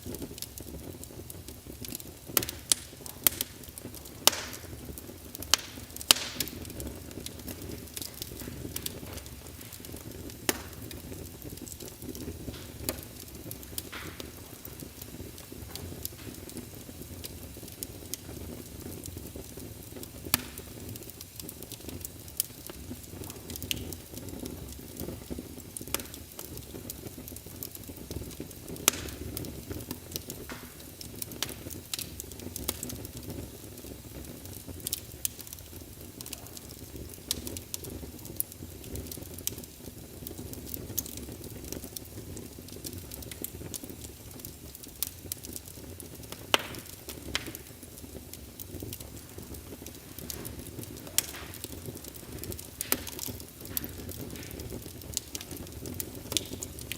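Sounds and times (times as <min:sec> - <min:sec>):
fire crackling: 0:00.0 - 0:56.9
fire popping and snapping: 0:00.0 - 0:56.9.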